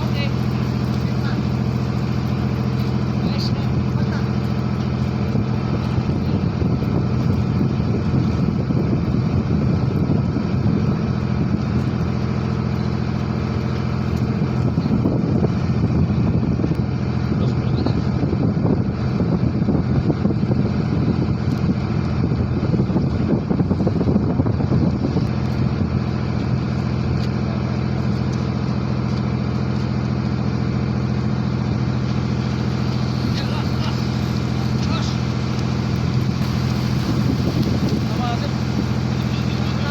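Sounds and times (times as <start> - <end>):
ship diesel engine humming: 0.0 - 39.9.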